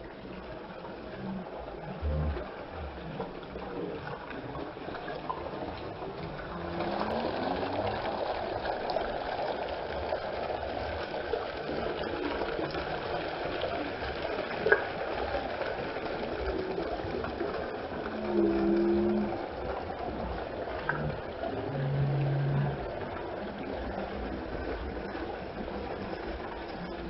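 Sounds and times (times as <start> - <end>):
water flowing: 0.0 - 27.0.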